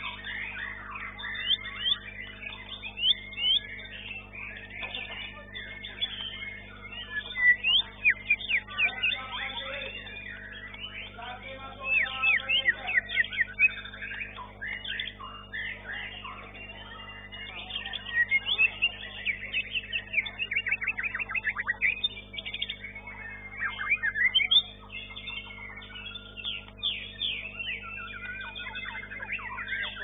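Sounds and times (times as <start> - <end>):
low steady hum: 0.0 - 30.0
songbirds singing: 0.0 - 30.0.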